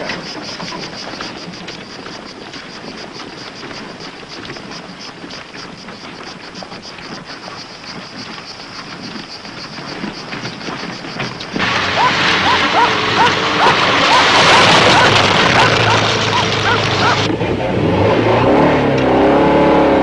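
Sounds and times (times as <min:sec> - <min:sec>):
fast high-pitched pulsing: 0:00.0 - 0:17.3
steady outdoor rushing noise: 0:00.0 - 0:20.0.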